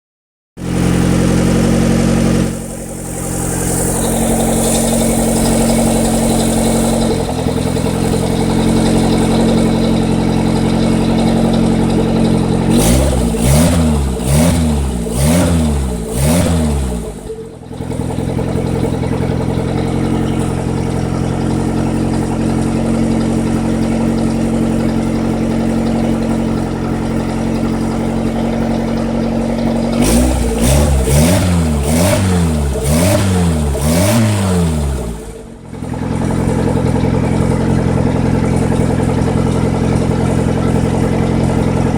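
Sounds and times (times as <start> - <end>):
car engine running and surging: 0.6 - 41.9.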